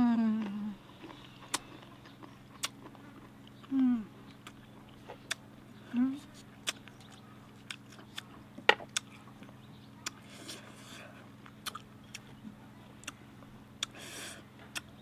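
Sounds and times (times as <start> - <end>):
animal chewing bamboo: 0.8 - 5.6, 6.2 - 15.0.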